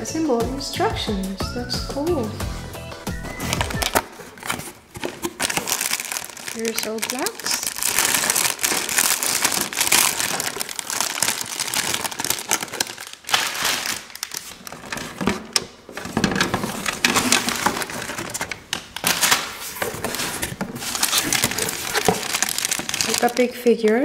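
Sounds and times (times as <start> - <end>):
plastic bags crinkling: 3.1 - 24.0.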